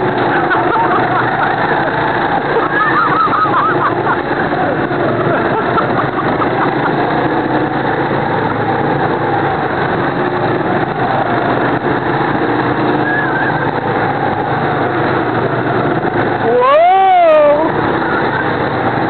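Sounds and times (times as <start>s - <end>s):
go-kart engines racing: 0.0s - 19.0s.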